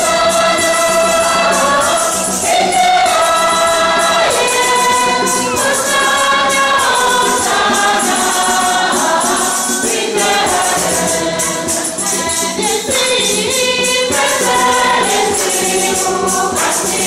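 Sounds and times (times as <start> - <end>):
tambourine shaken: 0.0 - 17.0
women's choir singing a hymn: 0.0 - 17.0.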